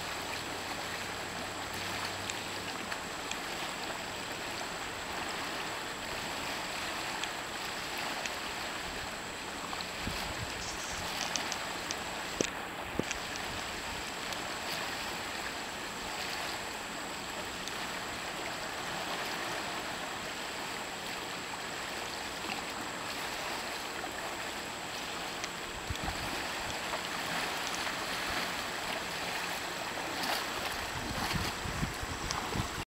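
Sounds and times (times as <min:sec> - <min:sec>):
river water rushing: 0:00.0 - 0:32.8.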